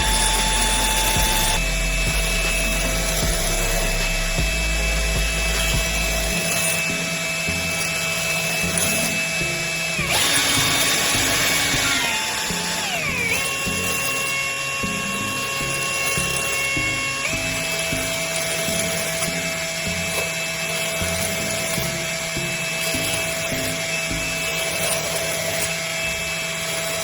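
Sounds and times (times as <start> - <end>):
electric power tool whining: 0.0 - 27.0.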